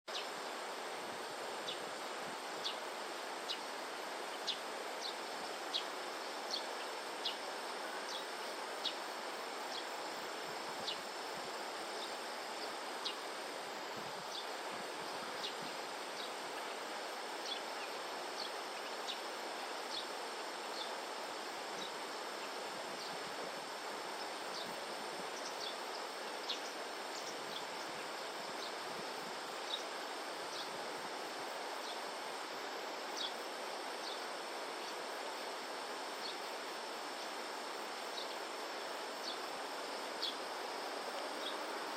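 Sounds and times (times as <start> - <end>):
outdoor background noise: 0.1 - 41.9.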